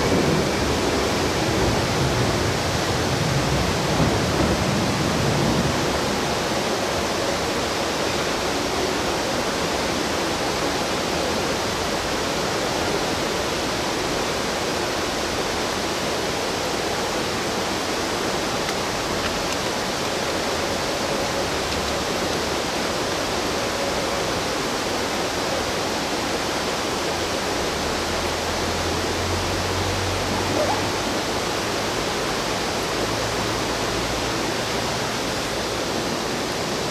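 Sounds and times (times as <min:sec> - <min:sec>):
fast-flowing river rushing: 0:00.0 - 0:36.9.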